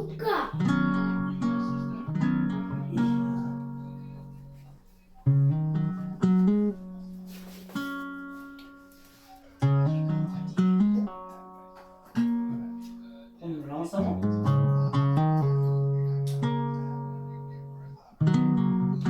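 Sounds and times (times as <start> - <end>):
slow plucked-string melody: 0.0 - 13.4, 14.0 - 19.0.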